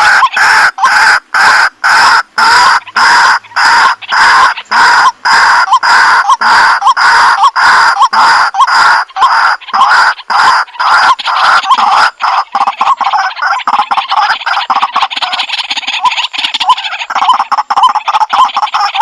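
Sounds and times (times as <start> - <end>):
waterhen calling harshly: 0.0 - 19.0.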